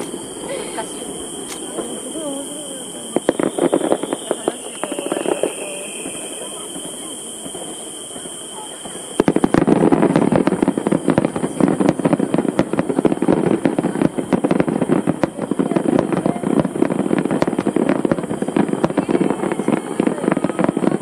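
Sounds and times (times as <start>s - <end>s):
fireworks cracking and popping: 0.0s - 21.0s.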